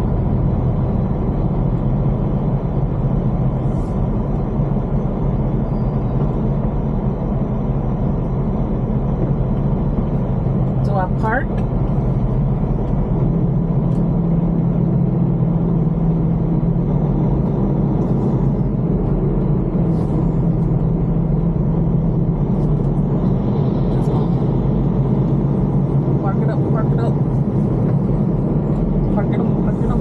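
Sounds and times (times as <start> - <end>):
diesel truck engine humming: 0.0 - 30.0.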